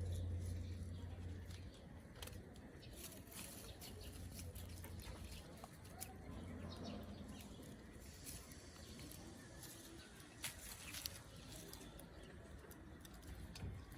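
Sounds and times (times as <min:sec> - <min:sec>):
chickens pecking and rustling: 0:00.0 - 0:13.9.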